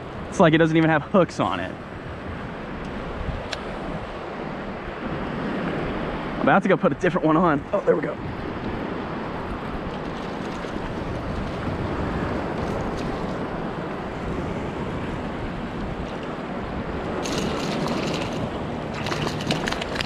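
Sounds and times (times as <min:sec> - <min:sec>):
surf washing: 0:00.0 - 0:20.0
wind buffeting microphone: 0:01.4 - 0:20.0.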